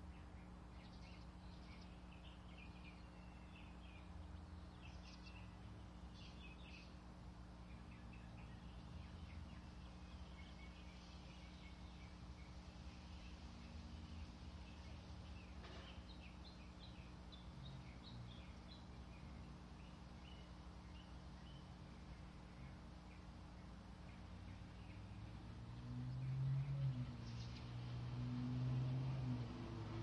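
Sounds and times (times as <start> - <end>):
steady low hum: 0.0 - 27.6
faint bird chirps: 0.0 - 27.8.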